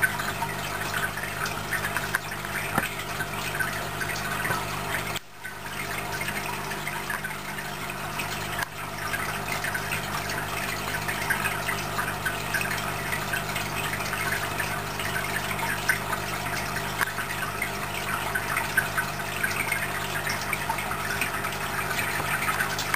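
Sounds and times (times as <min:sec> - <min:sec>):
pump motor hum: 0:00.0 - 0:22.9
water bubbling and trickling: 0:00.0 - 0:22.9.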